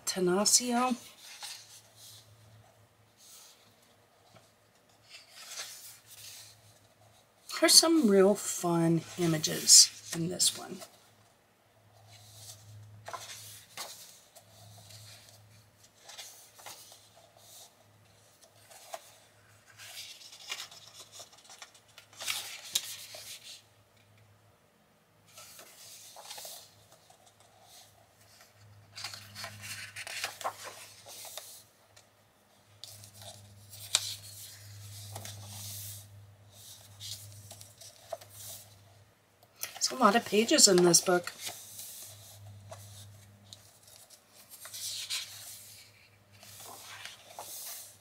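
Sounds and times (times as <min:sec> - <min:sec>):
paper pages rustling: 0:00.6 - 0:08.3, 0:12.0 - 0:23.7, 0:25.3 - 0:39.0, 0:39.6 - 0:48.0.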